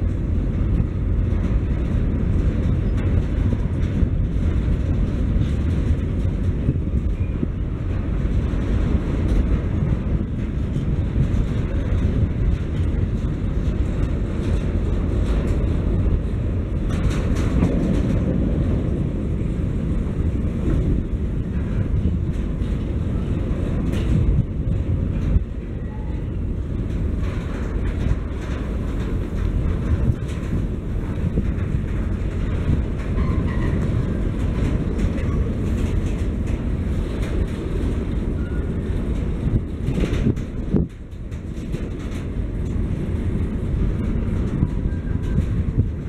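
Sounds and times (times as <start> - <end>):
train wheels rumbling on rails: 0.0 - 46.0
wheels and couplings clanking: 0.0 - 46.0.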